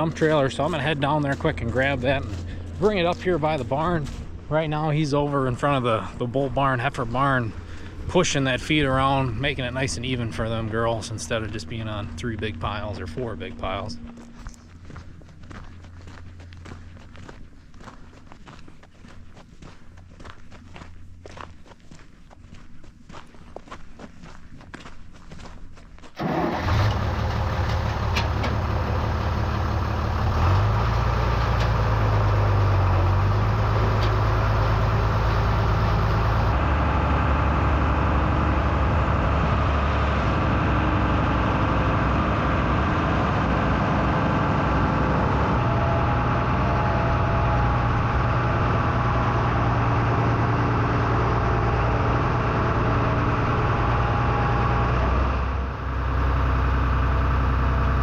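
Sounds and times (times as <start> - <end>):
tractor engine running: 0.0 - 21.4, 26.2 - 58.0.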